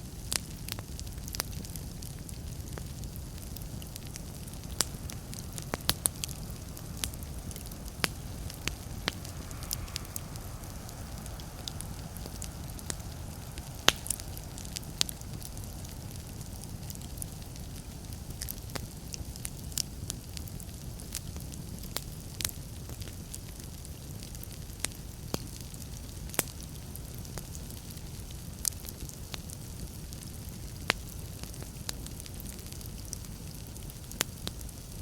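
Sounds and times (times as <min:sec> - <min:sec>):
low steady rumble: 0:00.0 - 0:28.6
fire crackling and popping: 0:00.0 - 0:35.0.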